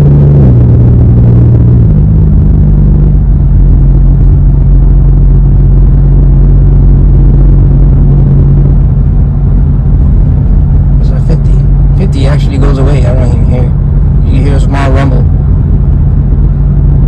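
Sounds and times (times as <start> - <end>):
car engine and exhaust hum: 0.0 - 17.0.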